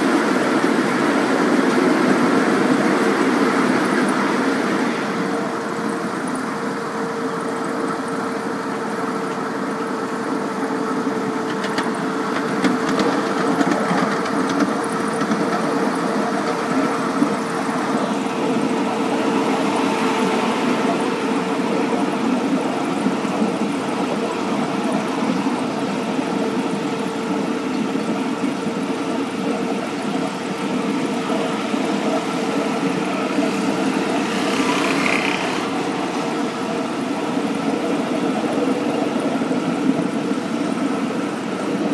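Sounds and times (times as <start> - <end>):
model locomotive running on track: 0.0 - 41.9.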